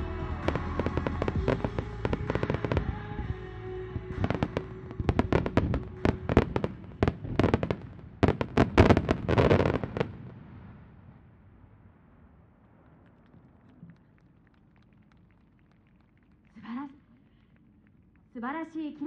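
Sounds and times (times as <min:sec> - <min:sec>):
fireworks bursting: 0:00.0 - 0:18.5.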